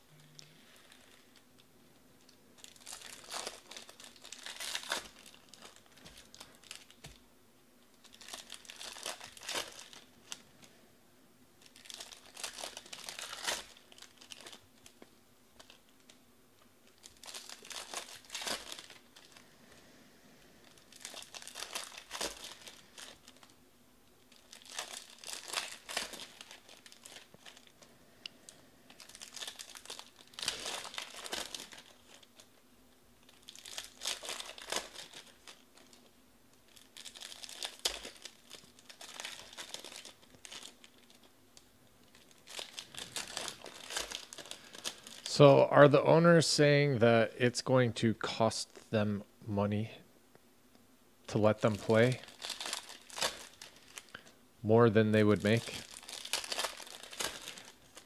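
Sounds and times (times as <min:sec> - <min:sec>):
foil wrappers crinkling: 0:00.2 - 0:01.6, 0:02.2 - 0:07.2, 0:08.0 - 0:10.8, 0:11.6 - 0:16.2, 0:16.8 - 0:19.8, 0:20.6 - 0:23.6, 0:24.2 - 0:32.6, 0:33.2 - 0:45.4, 0:51.3 - 0:58.0.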